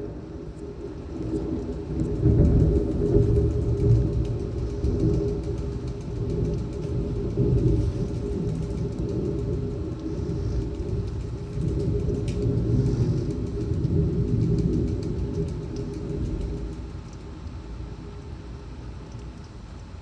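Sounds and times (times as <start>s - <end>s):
storm wind gusting: 0.0s - 20.0s.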